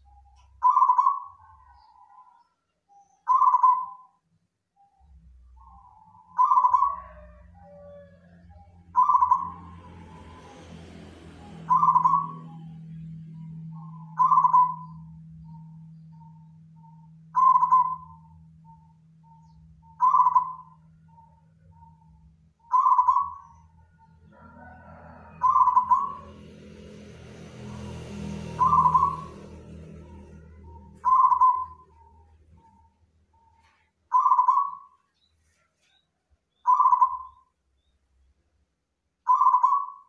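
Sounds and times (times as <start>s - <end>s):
dove cooing: 0.0s - 2.4s, 3.3s - 4.0s, 5.6s - 26.6s, 27.7s - 33.5s, 34.1s - 34.9s, 36.7s - 37.4s, 39.3s - 40.0s.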